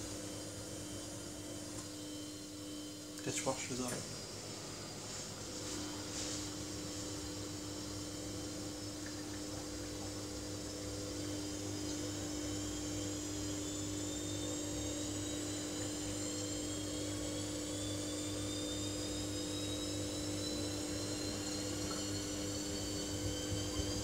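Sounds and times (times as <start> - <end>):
washing machine motor humming: 0.0 - 24.0.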